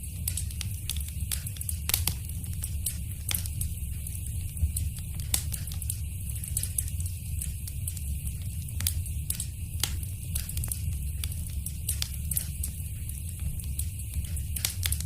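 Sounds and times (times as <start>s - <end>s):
low steady fire rumble: 0.0s - 15.0s
wood fire pops and snaps: 0.0s - 15.0s.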